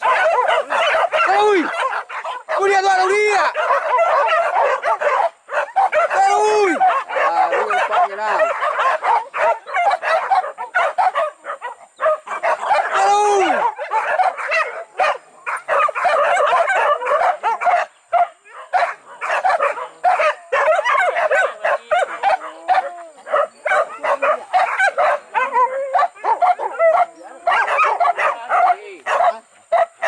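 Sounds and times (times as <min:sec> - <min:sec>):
pack of dogs barking and yelping: 0:00.0 - 0:30.0.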